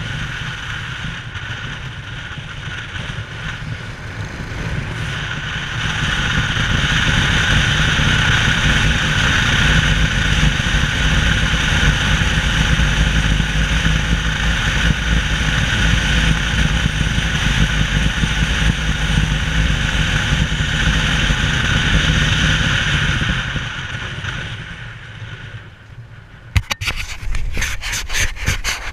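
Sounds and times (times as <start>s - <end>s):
engine running steadily: 0.0s - 28.9s.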